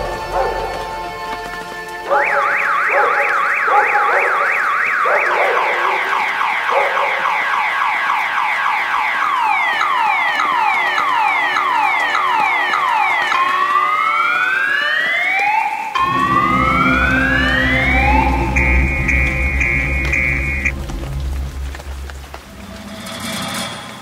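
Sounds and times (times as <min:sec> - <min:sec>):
emergency vehicle sirens: 0:00.0 - 0:22.7.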